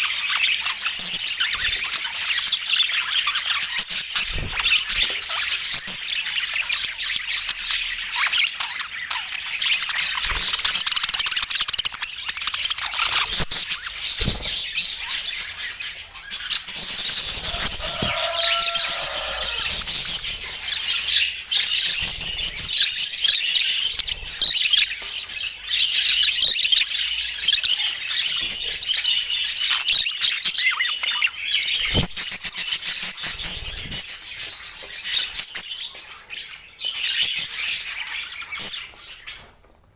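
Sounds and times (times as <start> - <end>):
budgerigars chattering and warbling: 0.0 - 39.5.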